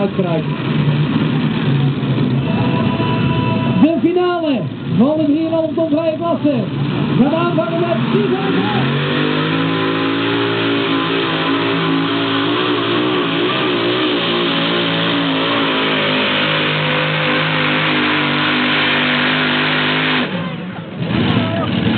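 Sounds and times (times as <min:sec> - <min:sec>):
tractor engine at full throttle: 0:00.0 - 0:21.9.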